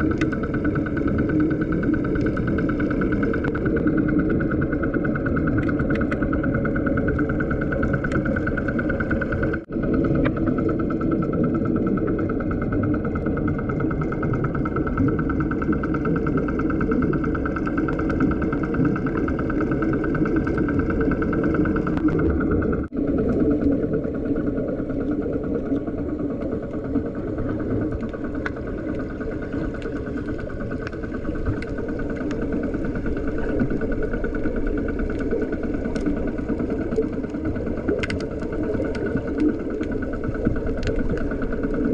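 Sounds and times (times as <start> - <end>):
faint clicks and crackles: 0.0 - 41.9
muffled underwater engine drone: 0.0 - 41.9.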